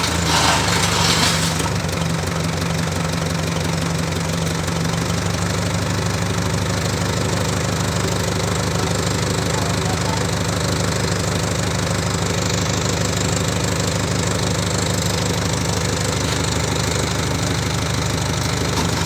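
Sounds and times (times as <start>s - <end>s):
diesel generator running: 0.0s - 19.0s.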